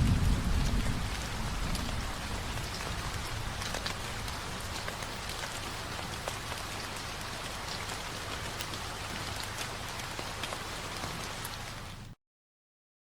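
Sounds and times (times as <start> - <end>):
rain falling: 0.0 - 12.2
raindrops ticking on a surface: 0.0 - 12.2.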